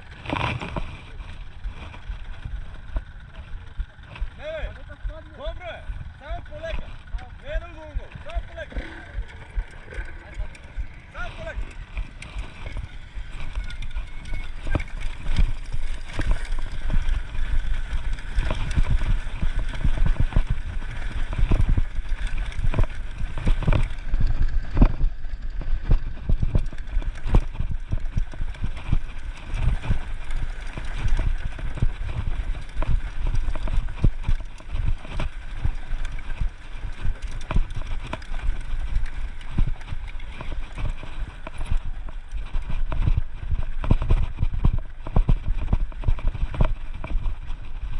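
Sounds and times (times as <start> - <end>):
dirt bike engine rumble: 0.0 - 47.9
knocks and clatter over rocks: 0.0 - 47.9.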